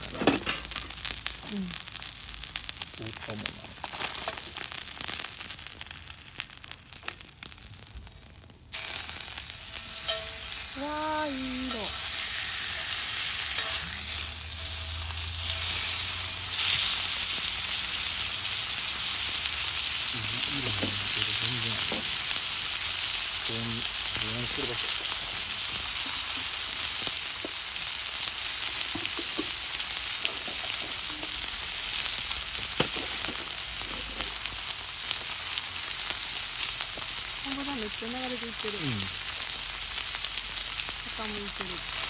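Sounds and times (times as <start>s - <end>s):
meat sizzling on griddle: 0.0s - 42.0s.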